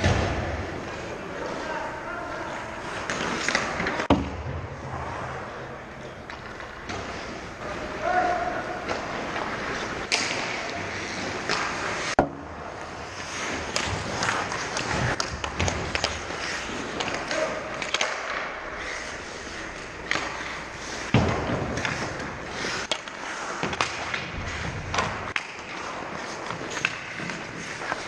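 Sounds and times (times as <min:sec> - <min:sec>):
skates scraping on ice: 0:00.0 - 0:04.1, 0:04.8 - 0:28.0
hockey sticks and puck clacking: 0:00.0 - 0:28.0.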